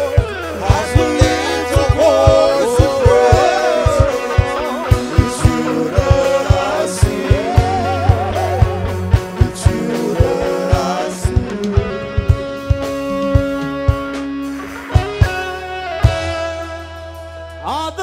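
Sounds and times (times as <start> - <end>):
worship band music: 0.0 - 18.0.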